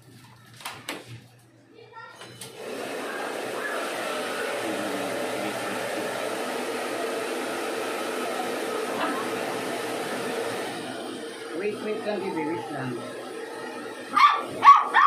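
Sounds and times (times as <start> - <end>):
hair dryer blowing: 2.2 - 15.0.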